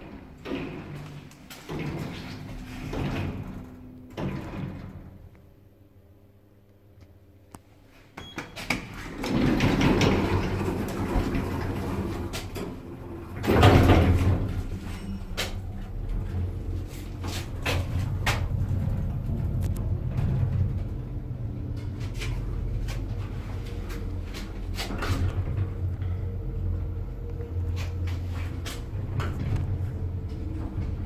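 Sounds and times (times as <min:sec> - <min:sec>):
lift doors sliding shut: 0:00.0 - 0:05.3, 0:08.3 - 0:31.0
lift motor hum: 0:00.0 - 0:05.4, 0:09.2 - 0:31.0.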